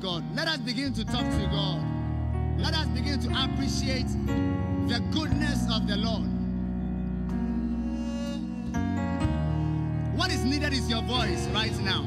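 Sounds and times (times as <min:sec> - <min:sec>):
soft worship band music: 0:00.0 - 0:12.0.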